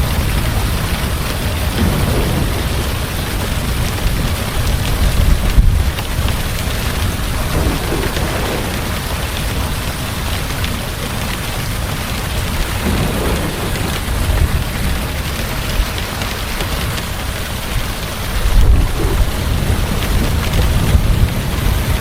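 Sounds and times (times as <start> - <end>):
heavy rain falling: 0.0 - 22.0
low rumbling thunder: 0.0 - 22.0.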